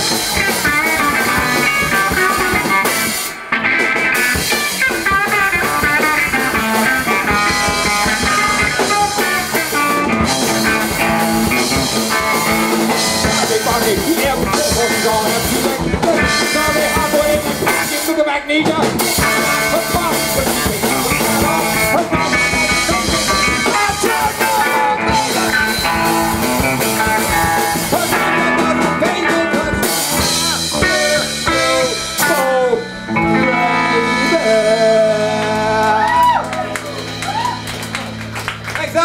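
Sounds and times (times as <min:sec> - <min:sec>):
drum kit: 0:00.0 - 0:39.0
loud guitar: 0:00.0 - 0:39.0.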